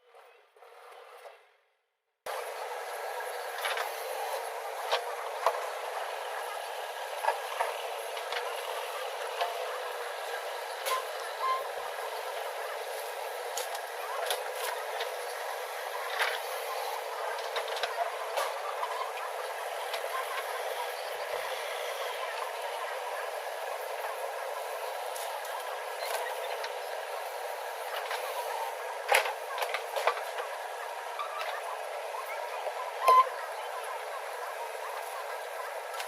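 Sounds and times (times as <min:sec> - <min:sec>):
heavy machinery engine running: 0:02.3 - 0:36.0.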